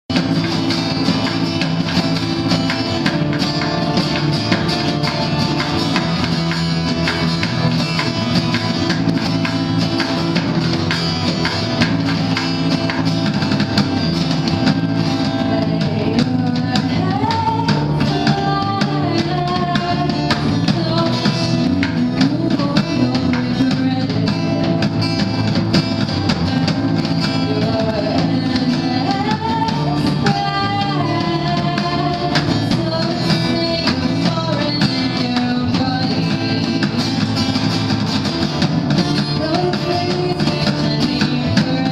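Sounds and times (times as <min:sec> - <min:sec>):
band playing acoustic music: 0:00.1 - 0:41.9.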